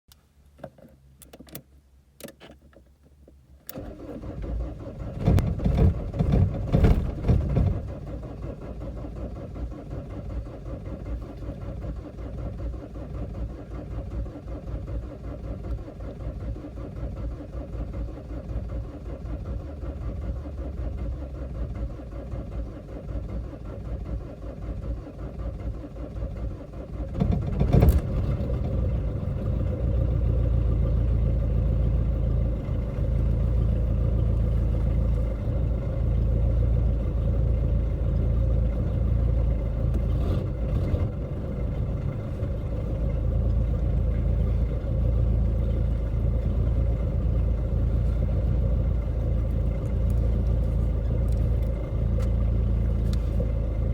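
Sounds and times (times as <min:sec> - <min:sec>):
car engine starting and running: 0:00.1 - 0:53.9.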